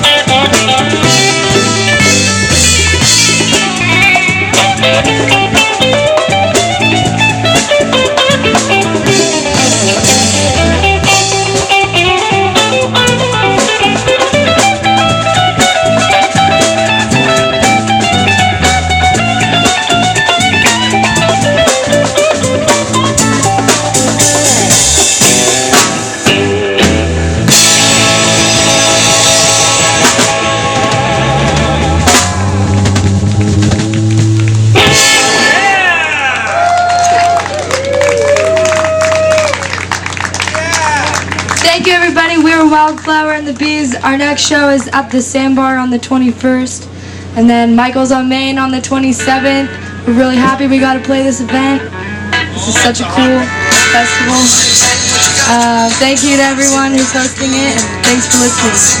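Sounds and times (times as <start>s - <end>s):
drum kit: 0.0s - 44.6s, 50.2s - 51.0s, 52.3s - 59.0s
bass guitar: 0.0s - 59.0s
electric guitar: 0.0s - 59.0s.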